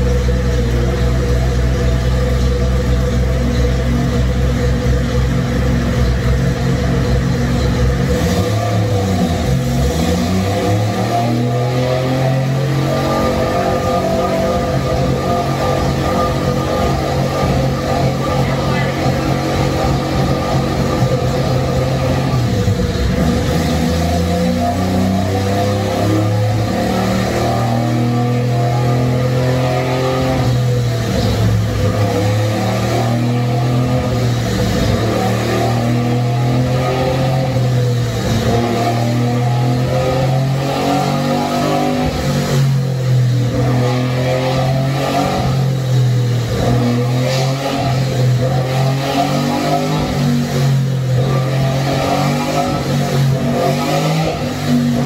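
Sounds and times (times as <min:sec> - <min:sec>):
rotary engine at raised revs: 0:00.0 - 0:55.0.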